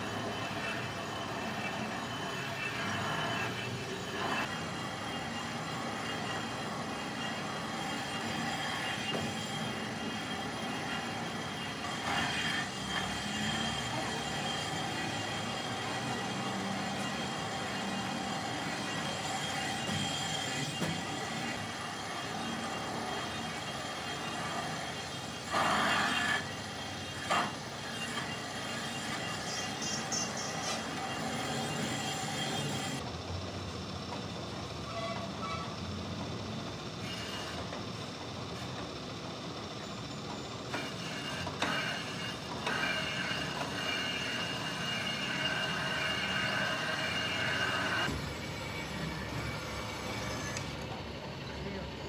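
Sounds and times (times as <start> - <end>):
grinding noise: 0.0 - 33.0, 40.3 - 52.0
metalworking machine whining: 0.0 - 52.0.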